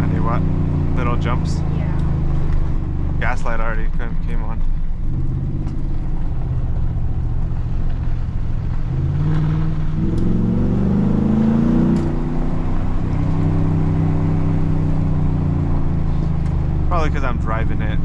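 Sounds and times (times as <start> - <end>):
truck engine and exhaust accelerating: 0.0 - 18.0.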